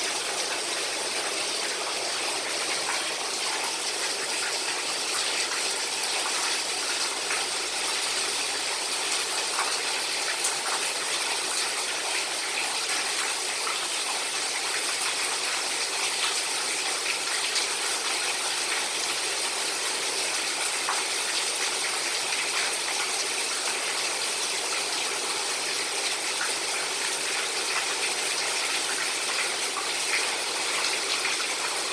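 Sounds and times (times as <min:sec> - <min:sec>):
rainwater falling from eaves: 0:00.0 - 0:31.9.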